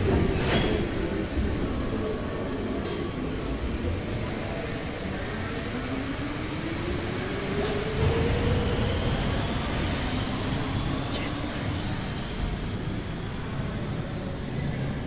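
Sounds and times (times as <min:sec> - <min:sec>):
elevator mechanical rumble: 0:00.0 - 0:15.0.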